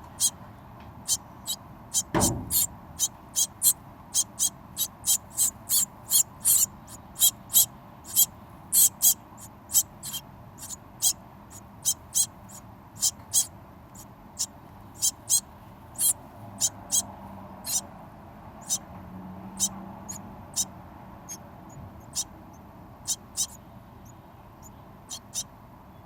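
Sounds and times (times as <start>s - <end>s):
birds calling: 0.0s - 17.9s, 18.6s - 18.9s, 19.5s - 26.0s.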